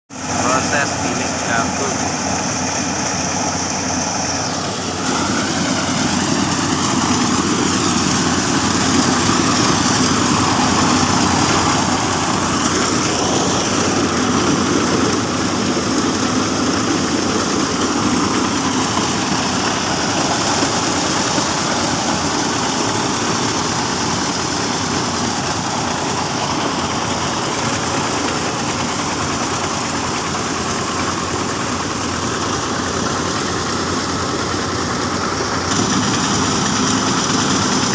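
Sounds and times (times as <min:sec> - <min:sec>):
grinding mill engine running: 0:00.1 - 0:37.9.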